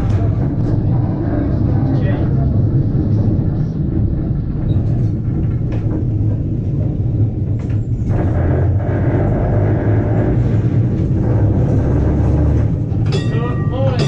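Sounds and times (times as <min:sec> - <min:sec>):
tram wheels rumbling on rail: 0:00.0 - 0:14.0.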